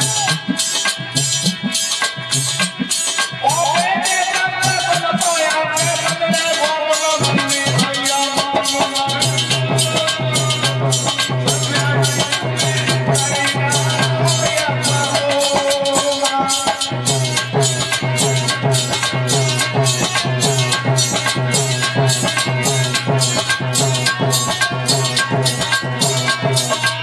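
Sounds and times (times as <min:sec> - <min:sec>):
hand drum beat: 0:00.0 - 0:27.0
harmonium playing held notes: 0:04.3 - 0:27.0
jingling rattle percussion: 0:04.6 - 0:27.0.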